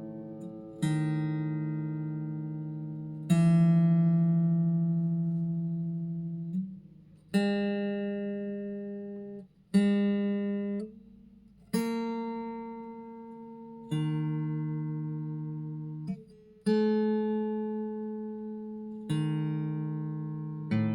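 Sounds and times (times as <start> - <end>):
acoustic guitar chords: 0.0 - 20.9.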